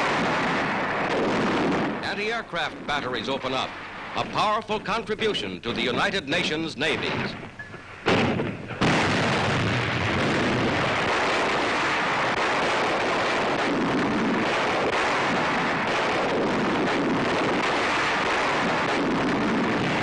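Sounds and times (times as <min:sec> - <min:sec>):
anti-aircraft guns firing: 0:00.0 - 0:20.0.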